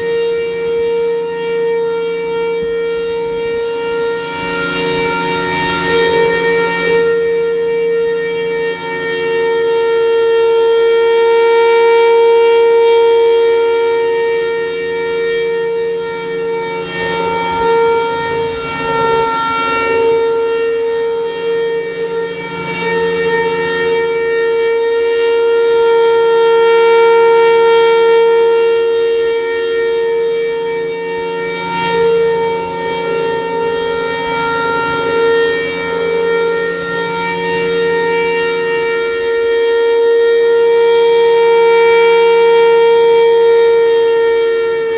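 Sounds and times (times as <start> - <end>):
outdoor warning siren steady tone: 0.0 - 44.9.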